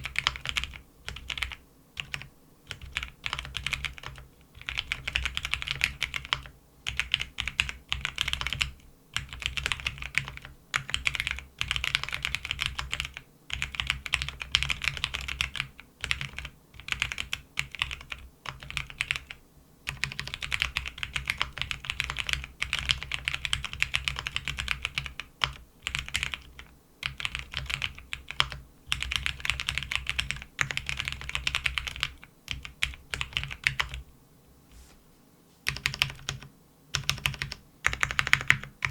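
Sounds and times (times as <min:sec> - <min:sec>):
typing on mechanical keyboard: 0:00.0 - 0:34.0, 0:35.7 - 0:38.9.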